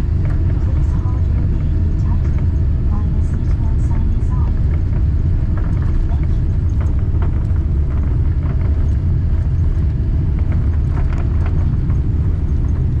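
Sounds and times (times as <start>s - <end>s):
airliner engines and wheels rumbling: 0.0s - 13.0s.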